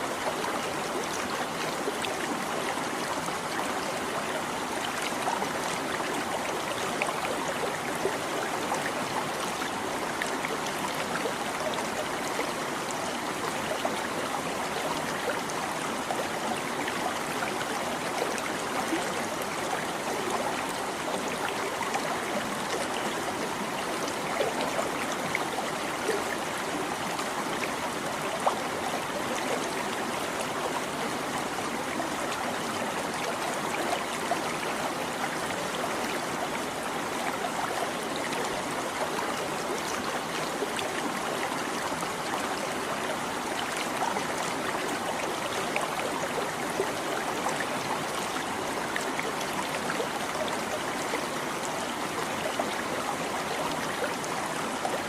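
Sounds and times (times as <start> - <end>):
small stream babbling: 0.0 - 55.0.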